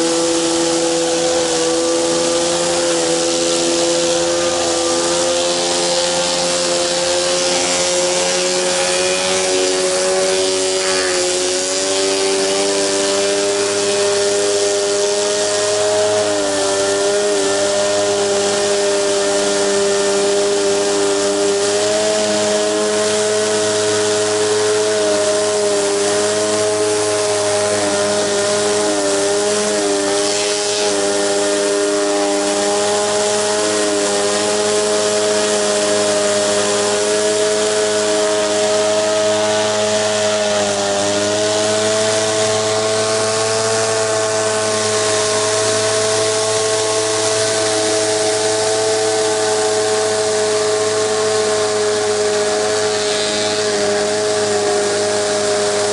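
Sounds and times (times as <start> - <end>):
high-pressure water spray hiss: 0.0 - 55.9
pressure washer engine drone: 0.0 - 55.9.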